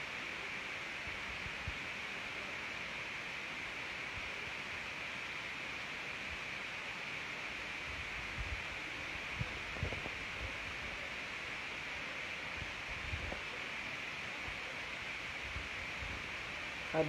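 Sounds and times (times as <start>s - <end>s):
room tone hiss: 0.0s - 17.0s.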